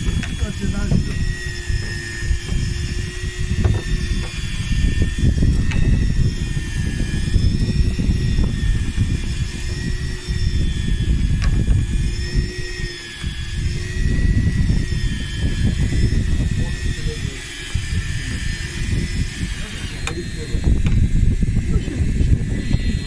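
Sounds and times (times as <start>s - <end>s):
boat engine running: 0.0s - 23.0s
wind buffeting microphone: 0.0s - 23.0s.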